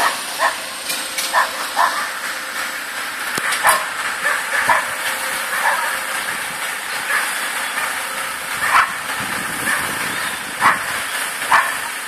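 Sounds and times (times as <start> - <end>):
backhoe engine and hydraulics hissing: 0.0 - 12.0.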